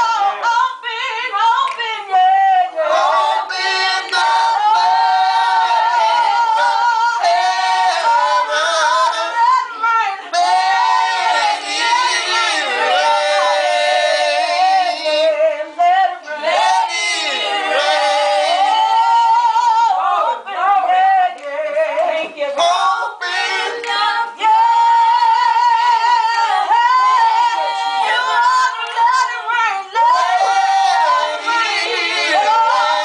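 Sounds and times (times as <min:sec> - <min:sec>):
group singing gospel: 0:00.0 - 0:33.0.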